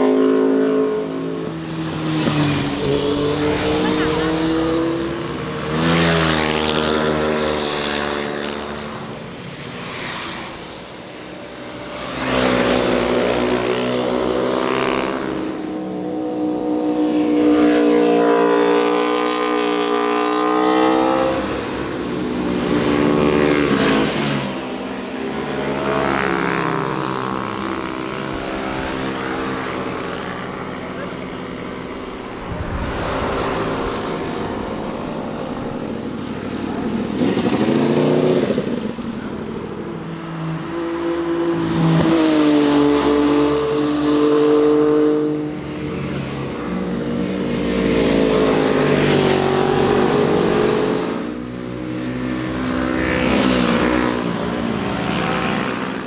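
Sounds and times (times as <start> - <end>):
motorcycles passing at speed: 0.0 - 56.0.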